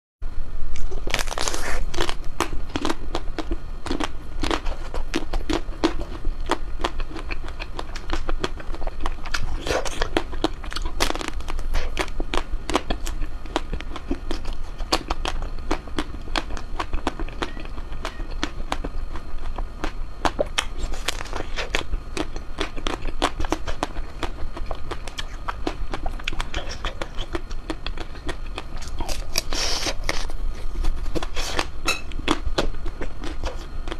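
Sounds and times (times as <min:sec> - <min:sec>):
low hum: 0:00.2 - 0:33.9
chewing ice cream: 0:00.7 - 0:33.9.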